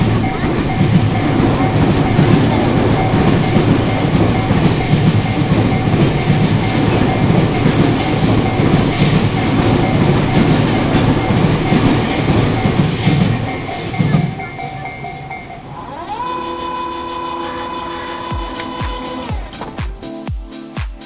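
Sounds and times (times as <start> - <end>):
faint crossing warning bell: 0.0 - 19.8
train wheels rumbling on rails: 0.0 - 20.2.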